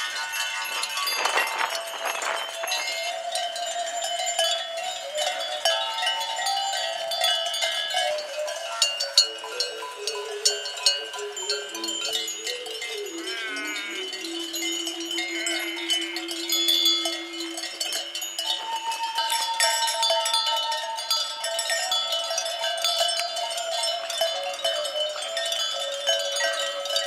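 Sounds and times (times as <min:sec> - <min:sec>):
sheep bells clanking: 0:00.0 - 0:27.0.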